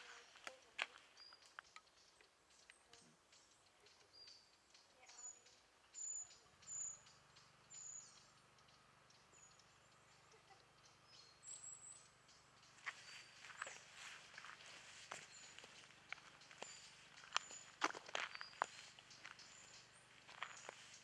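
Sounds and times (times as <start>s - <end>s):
faint low hum: 0.0s - 21.0s
small bird chirping: 0.0s - 21.0s.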